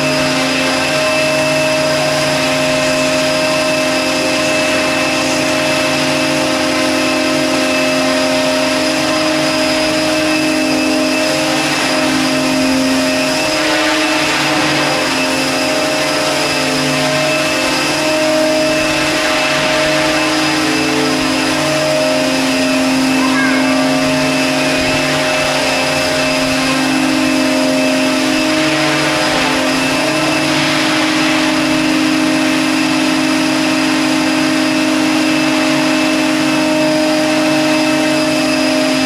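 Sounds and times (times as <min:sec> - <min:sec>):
model helicopter motor and rotor: 0:00.0 - 0:39.0.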